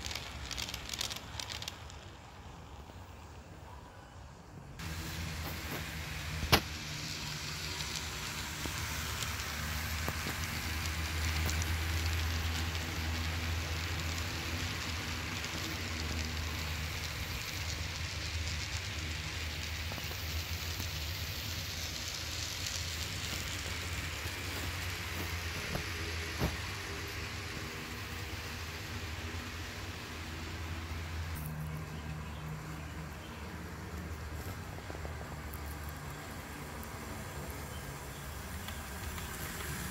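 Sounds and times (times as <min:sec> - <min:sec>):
model train motor hum: 0:00.0 - 0:03.5, 0:04.8 - 0:39.9
wheels hissing on rail: 0:00.0 - 0:39.9.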